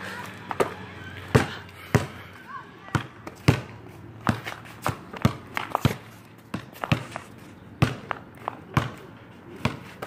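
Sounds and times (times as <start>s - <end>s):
basketball bouncing on asphalt: 0.2s - 10.0s.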